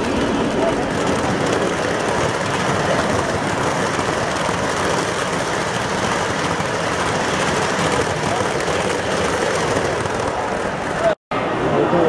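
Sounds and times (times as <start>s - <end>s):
model train wheels rolling on track: 0.0s - 11.2s.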